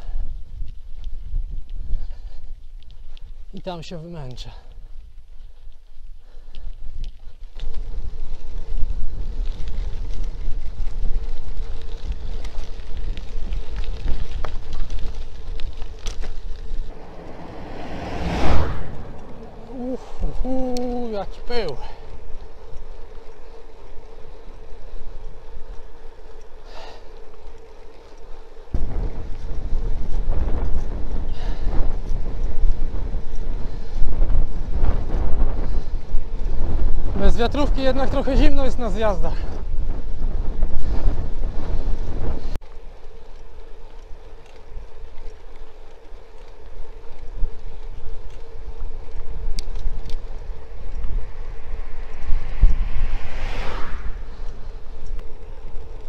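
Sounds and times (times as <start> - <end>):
wind rumbling on microphone: 0.0 - 3.6, 4.4 - 56.0
bicycle rolling on asphalt: 0.0 - 56.0.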